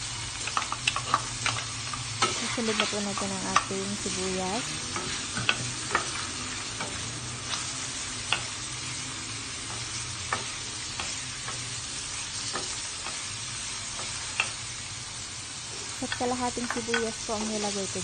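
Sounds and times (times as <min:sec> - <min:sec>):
food sizzling in pot: 0:00.0 - 0:18.0.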